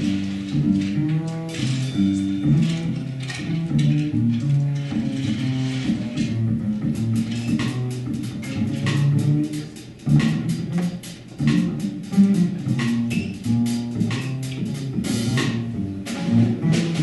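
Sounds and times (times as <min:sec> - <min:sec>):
double bass plucked jazz line: 0:00.0 - 0:17.0.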